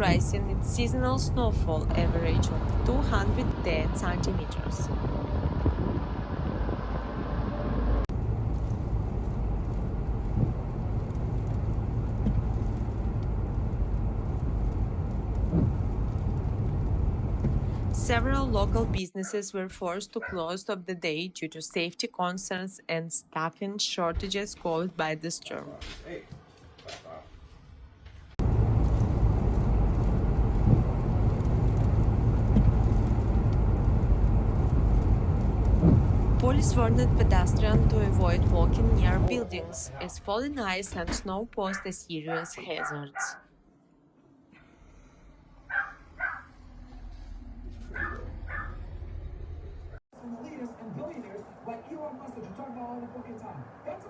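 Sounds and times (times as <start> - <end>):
low outdoor rumble: 0.0 - 20.6, 26.8 - 54.0.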